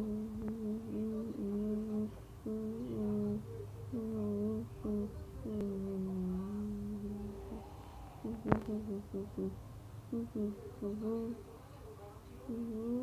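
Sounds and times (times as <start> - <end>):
person humming: 0.0 - 11.4, 12.5 - 13.0
low steady background hum: 0.0 - 13.0.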